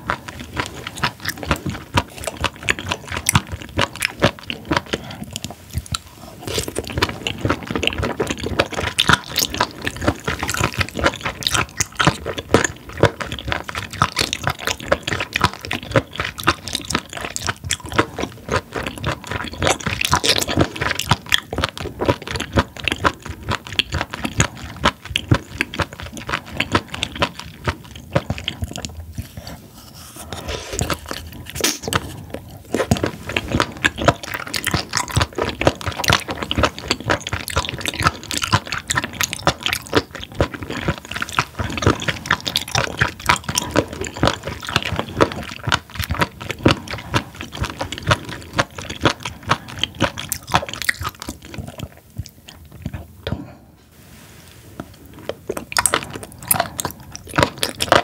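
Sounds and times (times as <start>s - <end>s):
rubbery chewing crunches: 0.0s - 53.6s, 54.2s - 58.0s.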